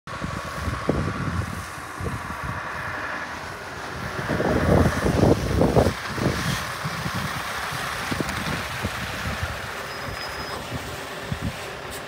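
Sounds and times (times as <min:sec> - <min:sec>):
wind buffeting microphone: 0:00.1 - 0:12.0
diesel truck engine running: 0:00.2 - 0:12.0.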